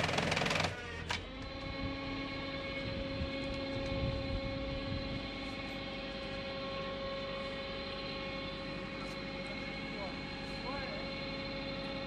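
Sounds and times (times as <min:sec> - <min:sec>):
log splitter motor whine: 0:00.0 - 0:12.0.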